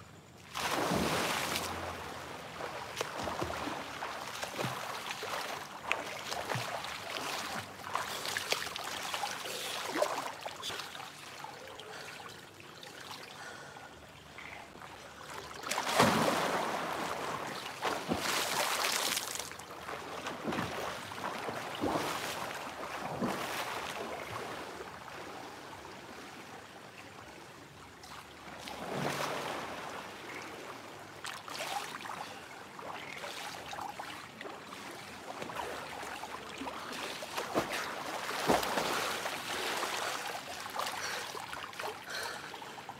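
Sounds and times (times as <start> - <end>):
water splashing from swimming: 0.5 - 13.8, 14.8 - 25.3, 31.2 - 42.9.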